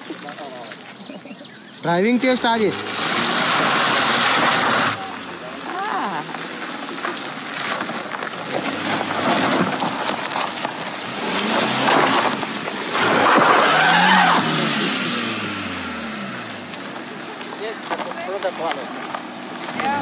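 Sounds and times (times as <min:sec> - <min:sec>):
tyres crunching on loose stones: 0:00.0 - 0:20.0
car engine revving under load: 0:02.0 - 0:20.0.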